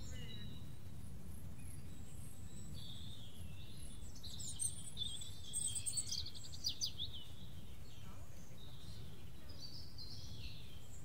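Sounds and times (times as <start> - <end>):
high bird chirps and trills: 0.0 - 0.8, 1.4 - 11.0
songbirds singing: 0.0 - 11.0.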